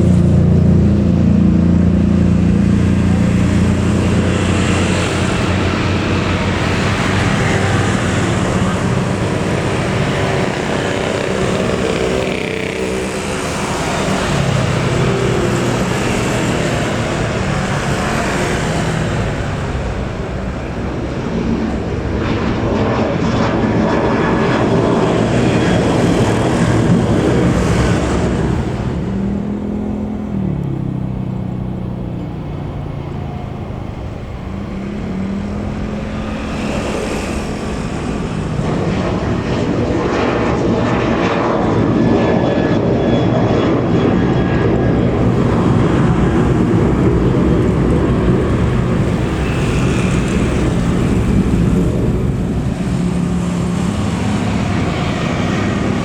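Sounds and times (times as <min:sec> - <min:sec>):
airliner engines roaring: 0:00.0 - 0:56.0.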